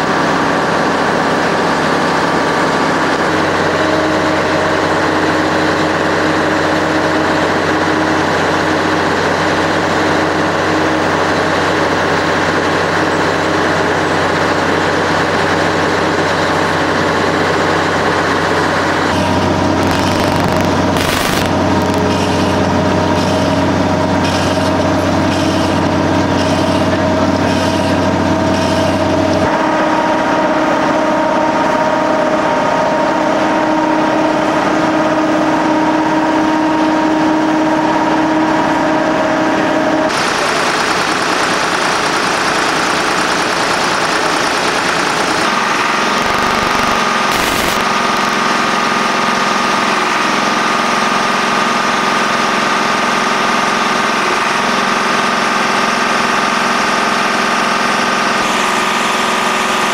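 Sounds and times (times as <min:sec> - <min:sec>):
heavy construction machinery engines: 0:00.0 - 0:59.9.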